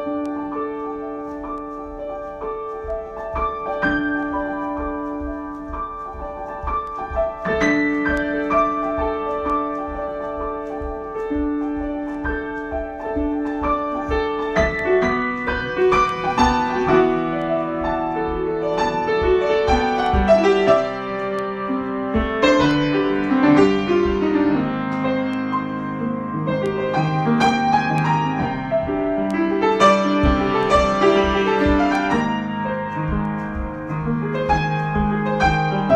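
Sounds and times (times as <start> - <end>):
solo piano: 0.0 - 35.9.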